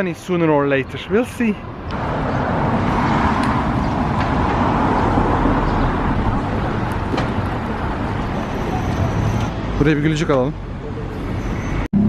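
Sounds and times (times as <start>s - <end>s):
road traffic driving past: 0.9s - 12.0s.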